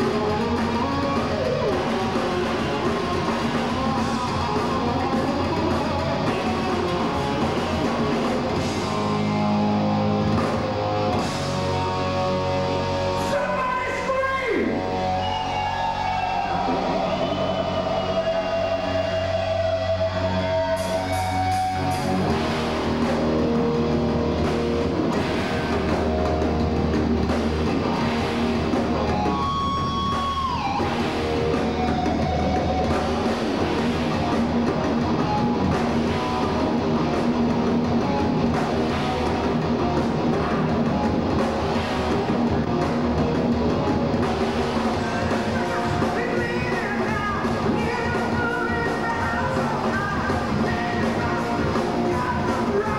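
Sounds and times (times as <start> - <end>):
bass guitar: 0.0 - 52.9
distorted electric guitars: 0.0 - 52.9
drum kit: 0.0 - 52.9.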